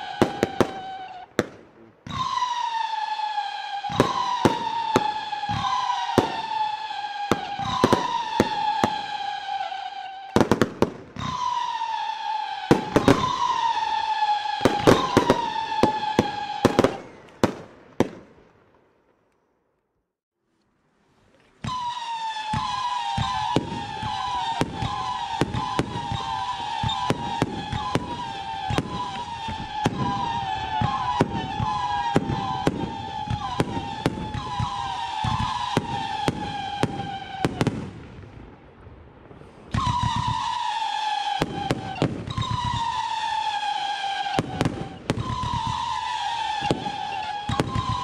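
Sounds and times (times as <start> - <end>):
firework pops and falling whistles: 0.0 - 18.5, 21.4 - 48.0.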